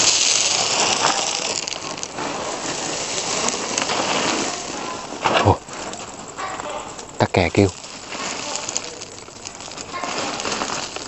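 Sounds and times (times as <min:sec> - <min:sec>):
rain pattering: 0:00.0 - 0:06.4, 0:07.0 - 0:11.0.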